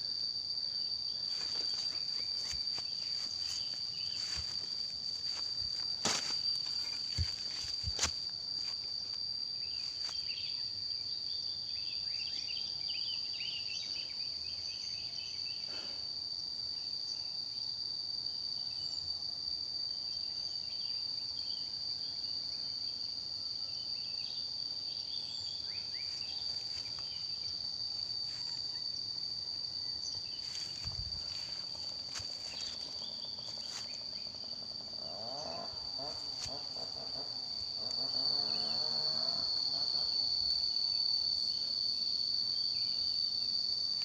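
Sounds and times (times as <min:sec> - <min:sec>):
insect chirps: 0:00.0 - 0:44.0
insects droning: 0:00.0 - 0:44.0.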